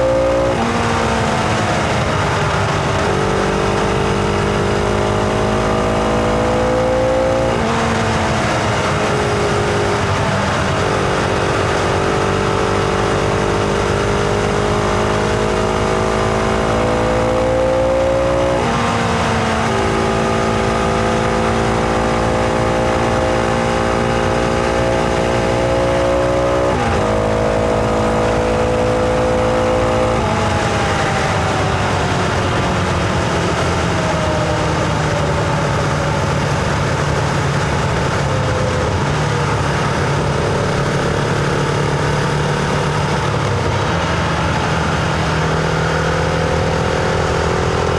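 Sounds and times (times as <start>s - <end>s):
motorcycle engine under load: 0.0s - 47.9s.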